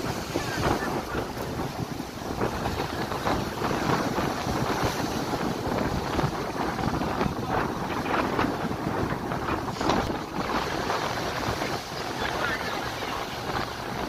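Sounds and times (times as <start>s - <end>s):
ocean waves breaking: 0.0s - 14.0s
wind buffeting microphone: 0.0s - 14.0s.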